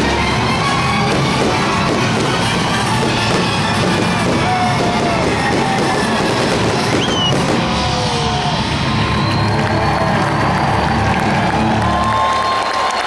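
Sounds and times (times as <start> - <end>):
loud rock music: 0.0 - 12.0
voices shouting: 0.0 - 13.0.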